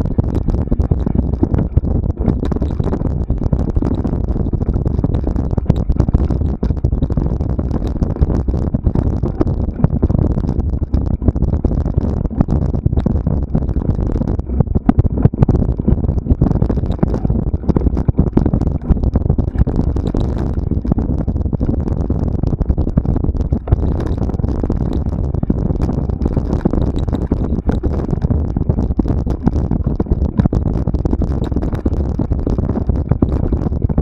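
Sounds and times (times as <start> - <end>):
mountain bike rumbling and rattling: 0.0 - 34.0.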